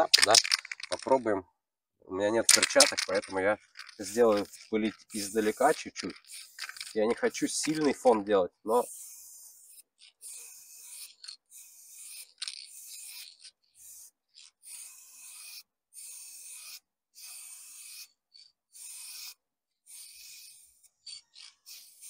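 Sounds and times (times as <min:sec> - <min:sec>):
spray paint can hissing: 0:00.1 - 0:01.0, 0:02.5 - 0:07.9, 0:08.8 - 0:18.2, 0:18.8 - 0:22.0.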